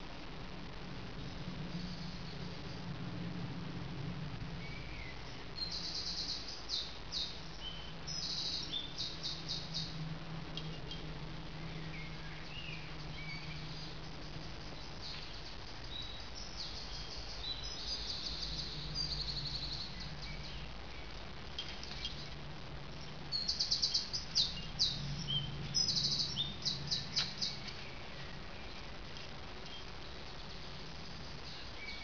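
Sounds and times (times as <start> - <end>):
low steady hum: 0.0 - 32.0
songbirds trilling: 4.5 - 32.0.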